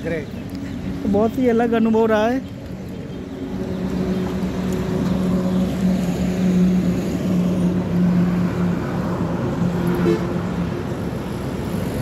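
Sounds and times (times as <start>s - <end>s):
road traffic: 0.0s - 12.0s
vehicle engine humming: 0.0s - 12.0s.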